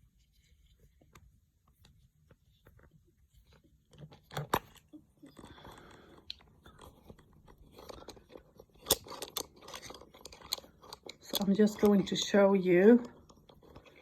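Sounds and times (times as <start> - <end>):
rustling and shuffling: 0.0 - 14.0.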